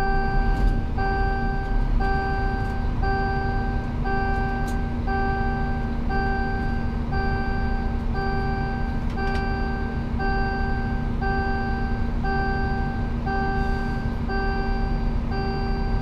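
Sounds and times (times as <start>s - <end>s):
road noise: 0.0s - 16.0s
truck engine drone: 0.0s - 16.0s
warning beeps: 0.0s - 16.0s.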